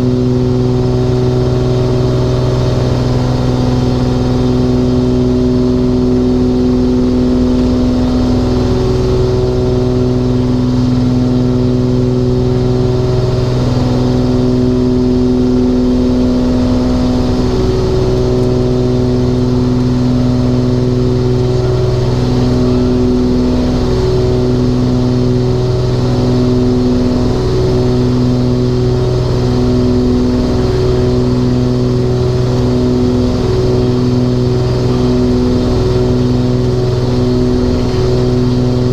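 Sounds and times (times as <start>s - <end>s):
twin piston engines droning: 0.0s - 38.9s.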